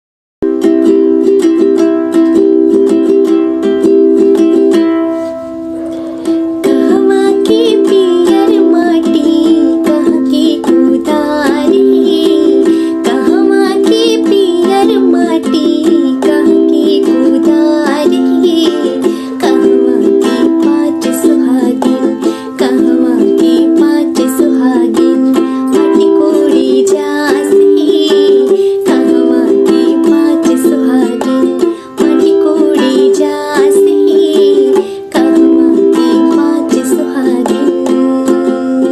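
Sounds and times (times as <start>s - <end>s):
ukulele strumming: 0.4s - 38.9s
woman singing: 6.2s - 38.9s.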